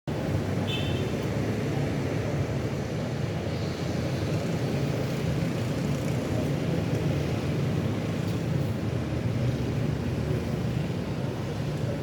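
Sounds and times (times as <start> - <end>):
road noise: 0.1 - 12.0.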